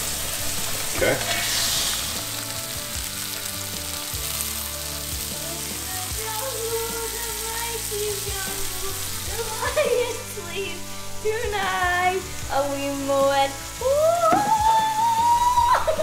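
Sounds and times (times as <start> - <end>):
background music: 0.0 - 16.0
steaks sizzling in a skillet: 0.0 - 16.0.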